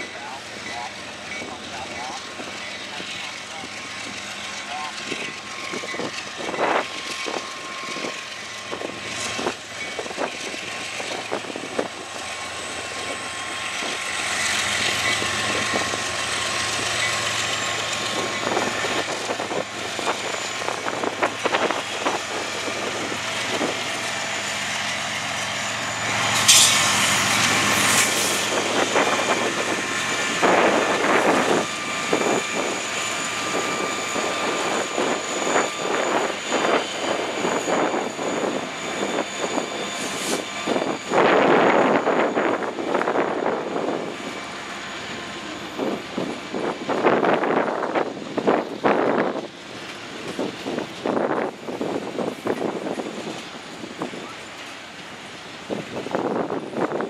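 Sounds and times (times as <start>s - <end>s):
diesel locomotives rumbling: 0.0s - 57.0s
wheels clanking on rails: 0.0s - 57.0s
high-pitched train screech: 0.2s - 47.9s.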